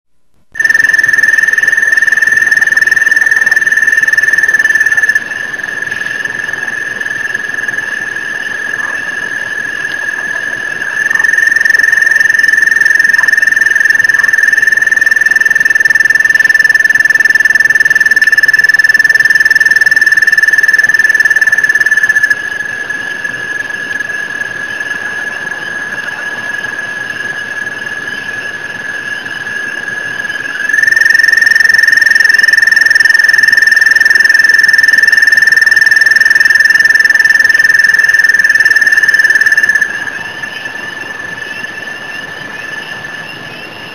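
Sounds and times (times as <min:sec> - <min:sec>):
crickets and frogs trilling: 0:00.6 - 0:43.9.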